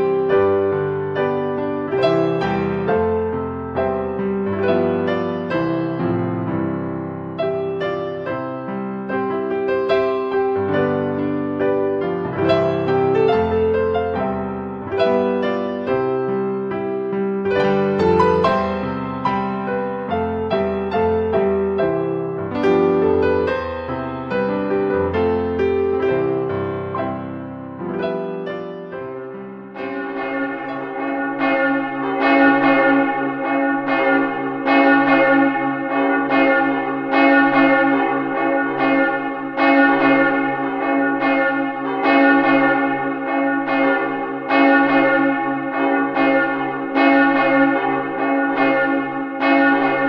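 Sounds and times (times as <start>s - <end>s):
church bells ringing: 0.0s - 6.6s, 7.3s - 27.3s, 28.3s - 50.0s
soft piano notes: 0.0s - 50.0s.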